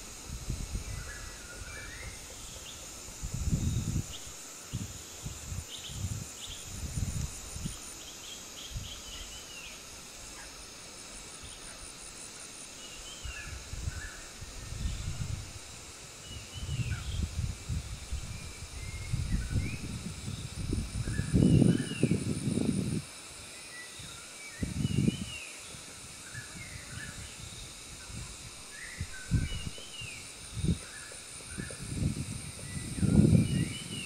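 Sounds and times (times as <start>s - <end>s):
high-pitched insect drone: 0.0s - 34.0s.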